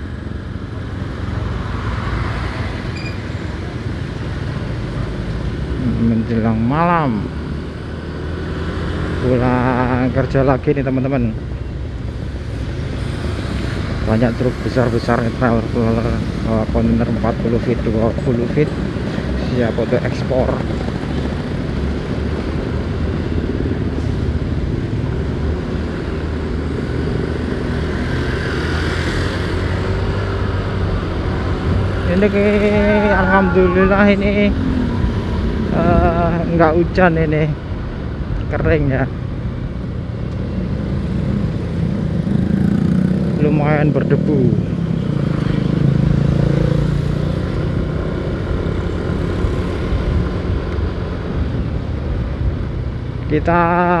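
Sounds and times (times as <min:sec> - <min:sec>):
motorcycle riding at speed: 0:00.0 - 0:54.0
road and traffic noise: 0:00.0 - 0:54.0.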